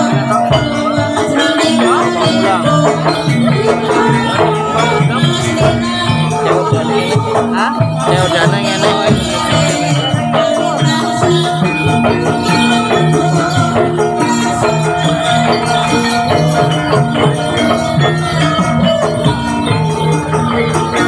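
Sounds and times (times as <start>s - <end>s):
gamelan music: 0.0s - 21.0s.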